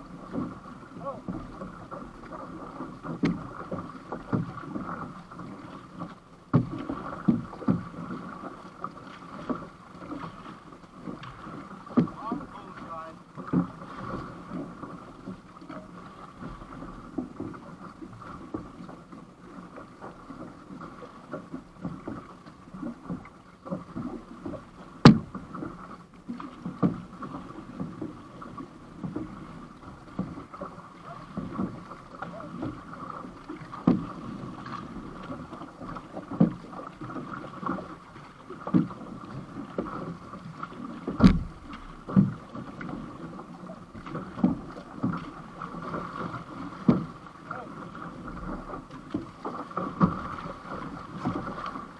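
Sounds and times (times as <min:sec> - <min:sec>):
paddle splashes: 0:00.0 - 0:51.9
water slapping against canoe hull: 0:00.0 - 0:51.9.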